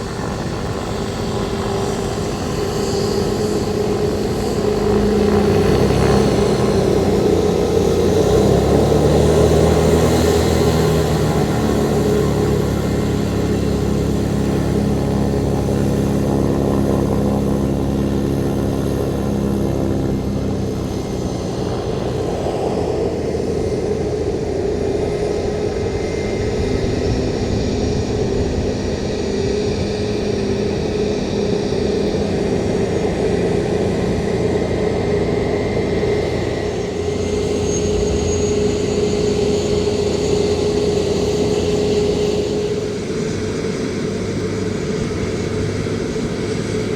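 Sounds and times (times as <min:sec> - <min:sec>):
aircraft engine running: 0:00.0 - 0:46.9
low layered hum: 0:03.2 - 0:46.4.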